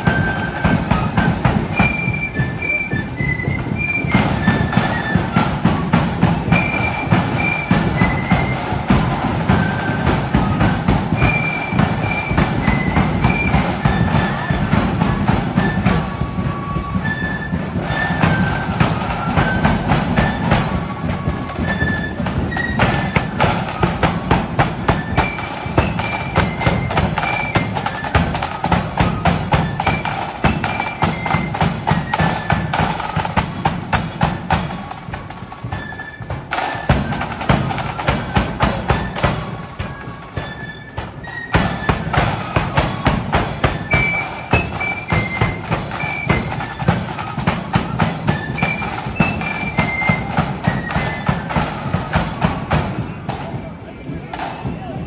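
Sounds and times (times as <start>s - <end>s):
cymbals: 0.0s - 55.0s
flutes playing a melody: 0.0s - 55.0s
snare drum strokes: 0.0s - 55.0s.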